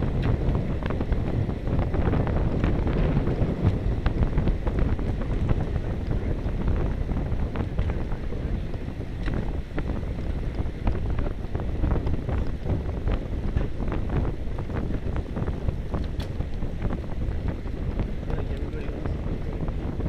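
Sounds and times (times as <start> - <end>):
bicycle ticks and rattles: 0.0 - 20.0
wind rushing over microphone: 0.0 - 20.0.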